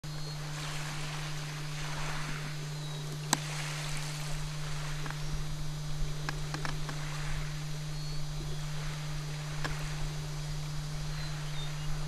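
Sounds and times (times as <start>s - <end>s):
steady low hum: 0.0s - 12.0s
water lapping on rocky shore: 0.4s - 12.0s.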